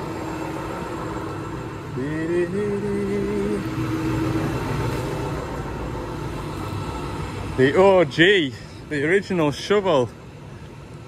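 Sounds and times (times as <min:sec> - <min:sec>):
diesel engine running: 0:00.0 - 0:10.9.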